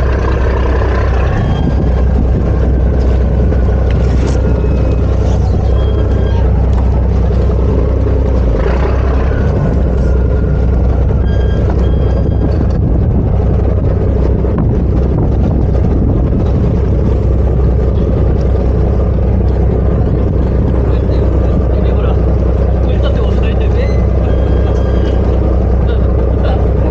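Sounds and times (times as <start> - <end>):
boat engine droning: 0.0 - 26.9
wind noise on microphone: 0.0 - 26.9.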